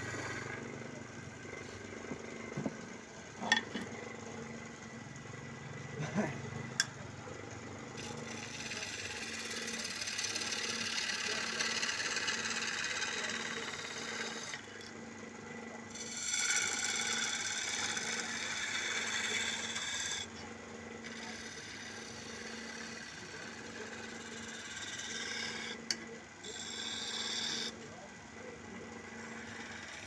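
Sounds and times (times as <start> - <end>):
chisel scraping spinning wood: 0.0 - 15.0, 15.7 - 30.0
wood lathe motor hum: 0.0 - 30.0.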